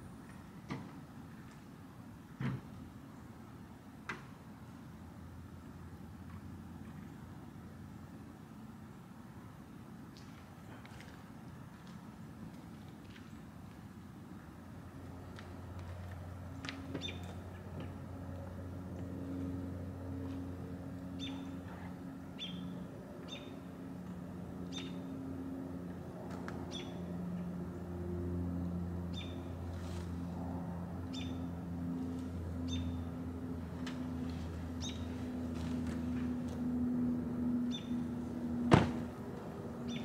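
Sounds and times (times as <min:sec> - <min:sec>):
low engine-like hum: 0:00.0 - 0:40.0.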